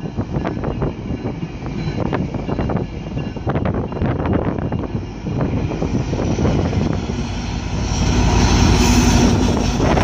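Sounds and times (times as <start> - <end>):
diesel locomotive engine: 0.0 - 10.0
train coaches rumbling past: 0.0 - 10.0.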